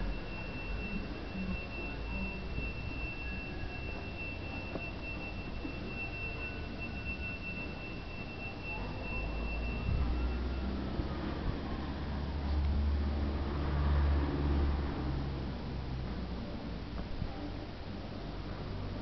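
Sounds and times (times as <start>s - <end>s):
high-pitched whine: 0.0s - 15.5s.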